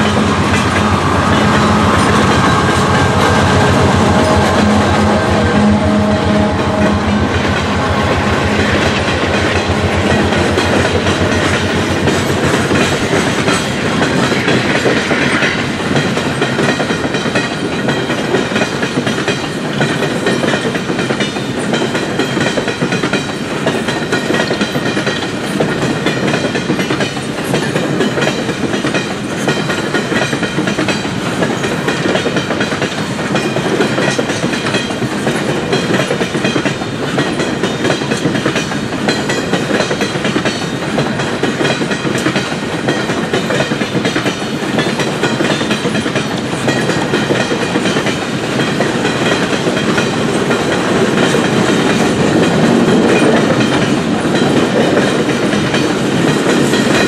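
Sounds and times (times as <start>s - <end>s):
freight train rumble: 0.0s - 57.0s
wheels clacking over rail joints: 0.0s - 57.0s.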